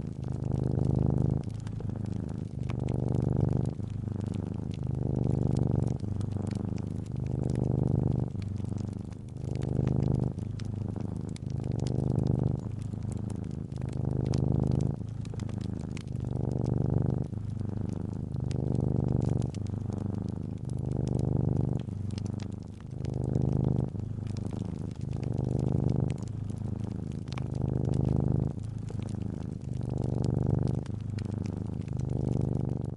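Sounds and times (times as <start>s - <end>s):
cat purring: 0.0s - 32.9s
wood fire crackling: 0.0s - 32.9s.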